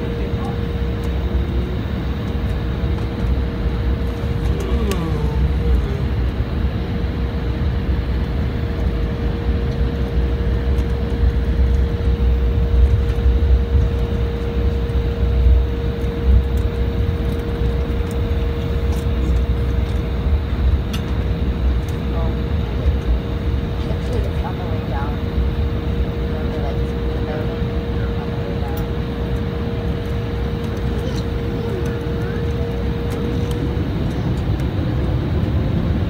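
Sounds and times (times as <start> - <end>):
constant hum: 0.0 - 36.0
jet engine rumble in cabin: 0.0 - 36.0.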